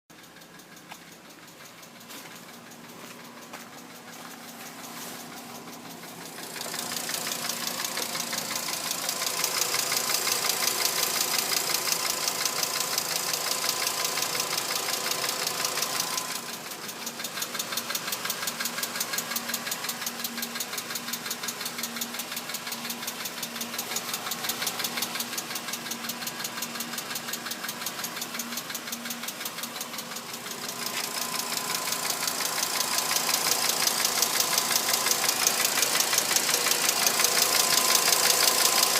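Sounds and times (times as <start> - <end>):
car engine running: 0.1 - 38.9
fast engine ticking: 0.1 - 38.9.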